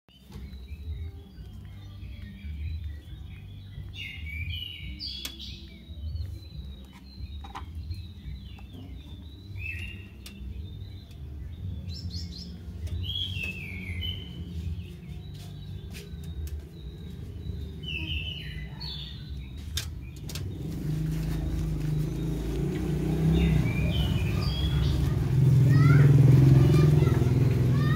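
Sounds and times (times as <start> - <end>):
motor vehicle engine: 0.2 - 27.9.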